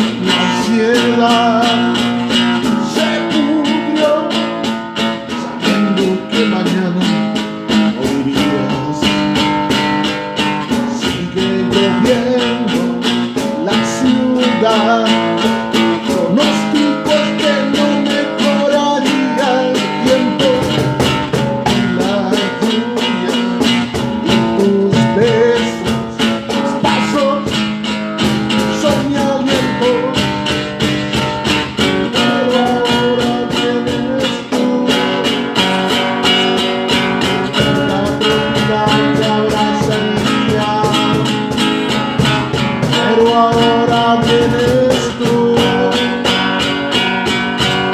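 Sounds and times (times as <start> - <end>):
guitar-led music: 0.0 - 47.9.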